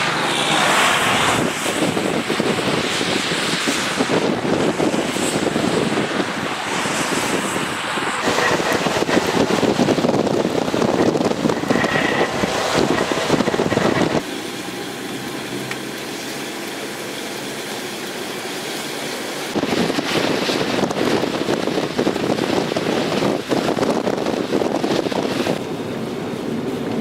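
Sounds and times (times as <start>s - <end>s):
wind buffeting microphone: 0.0s - 17.0s, 18.0s - 27.0s.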